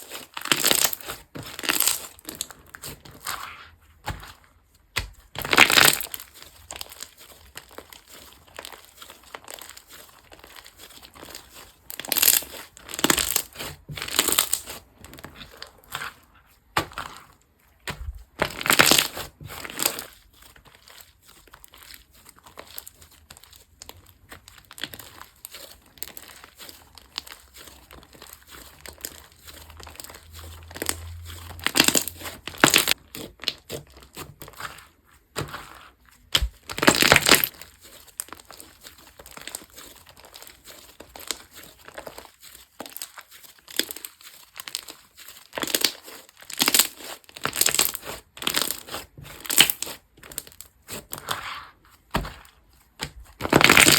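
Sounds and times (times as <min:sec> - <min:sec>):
hands squishing slime: 0:00.0 - 0:53.9.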